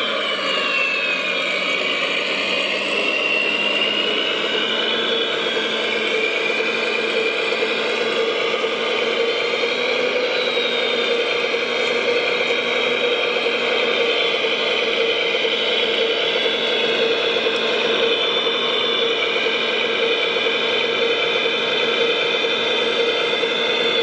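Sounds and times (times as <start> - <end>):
toy truck motor whining: 0.0 - 24.0.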